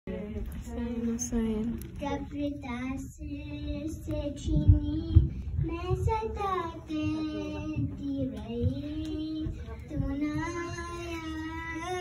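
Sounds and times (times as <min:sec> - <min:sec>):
low thumps: 0:02.2 - 0:12.0.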